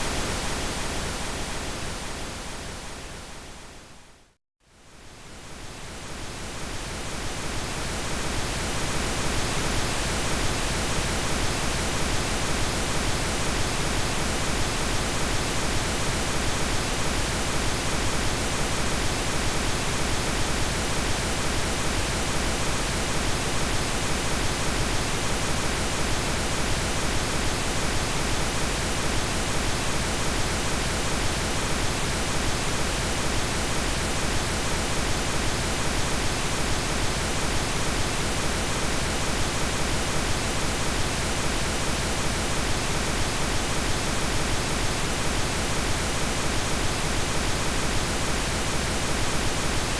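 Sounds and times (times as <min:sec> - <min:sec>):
pink noise hiss: 0:00.0 - 0:04.3, 0:04.9 - 0:49.9.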